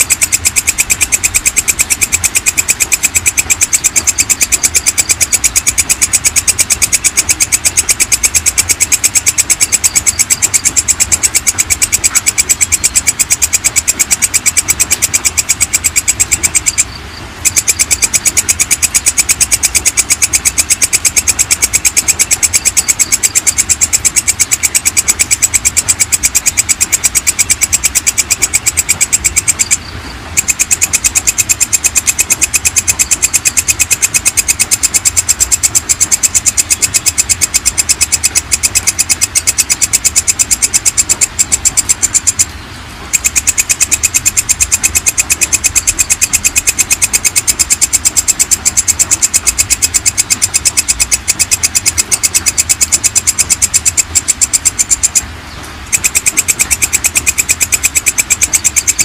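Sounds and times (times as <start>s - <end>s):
bush cricket calling: 0.0s - 59.0s.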